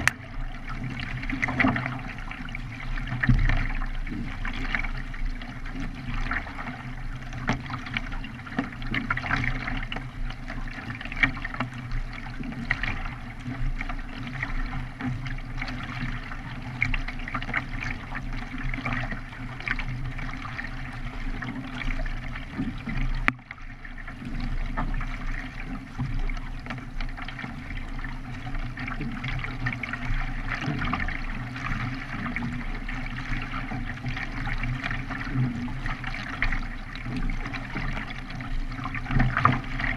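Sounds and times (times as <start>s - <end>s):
paddle blades splashing: 0.0s - 39.9s
water rushing along hull: 0.0s - 39.9s.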